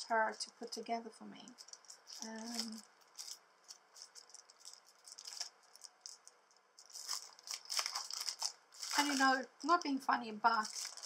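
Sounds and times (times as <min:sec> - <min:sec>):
plastic packaging crinkling: 0:01.5 - 0:11.0.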